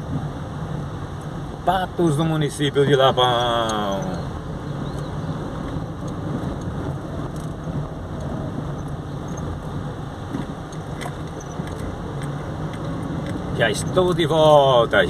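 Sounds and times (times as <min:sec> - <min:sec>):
tyre and road noise: 0:00.0 - 0:15.0
vehicle engine drone: 0:00.0 - 0:15.0.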